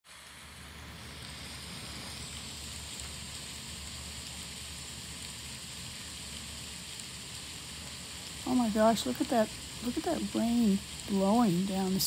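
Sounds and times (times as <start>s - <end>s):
heavy rain downpour: 0.1s - 12.0s.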